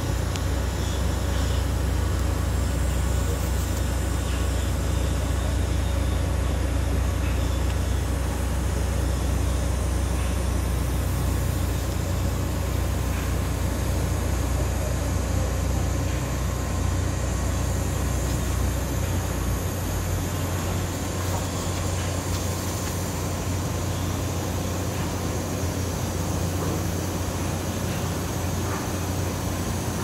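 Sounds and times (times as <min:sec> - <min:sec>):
constant hiss: 0:00.0 - 0:30.0.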